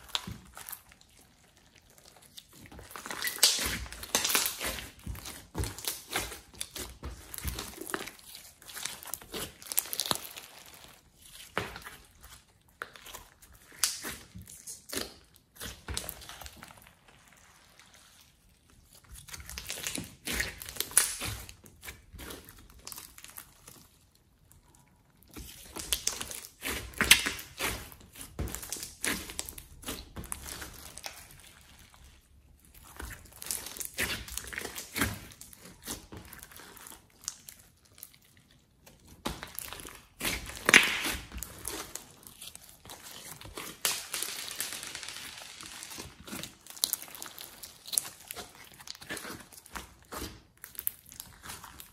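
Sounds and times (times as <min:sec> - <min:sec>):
slime squeezed by hand: 0:00.0 - 0:24.0, 0:24.6 - 0:51.9.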